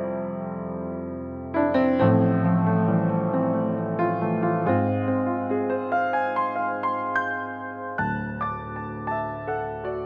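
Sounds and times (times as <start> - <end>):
calm piano music: 0.0 - 10.0.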